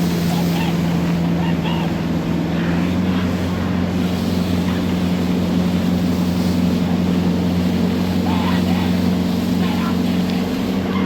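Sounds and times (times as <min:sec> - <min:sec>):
motorboat engine running: 0:00.0 - 0:11.0
water rushing: 0:00.0 - 0:11.0.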